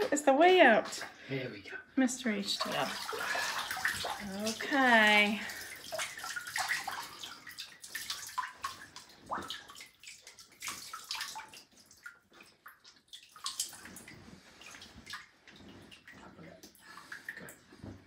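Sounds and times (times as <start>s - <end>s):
water dripping into bathtub: 2.1s - 18.0s.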